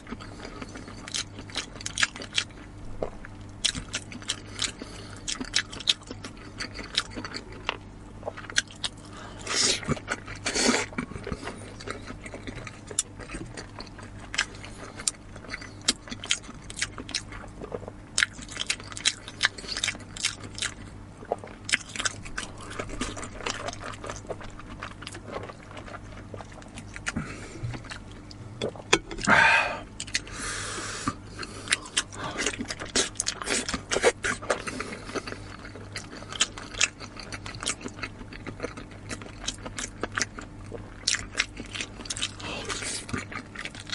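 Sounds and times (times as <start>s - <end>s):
chewing and crunching food: 0.0s - 30.4s, 31.0s - 43.9s.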